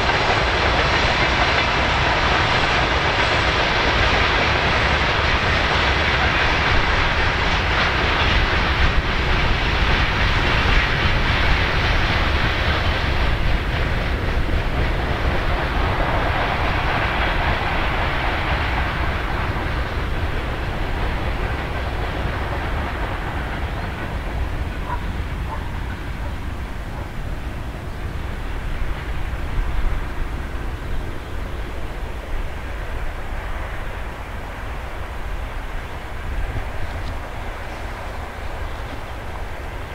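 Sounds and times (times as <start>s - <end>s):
train hiss: 0.0s - 39.9s
train wheels rumbling on rails: 0.0s - 39.9s.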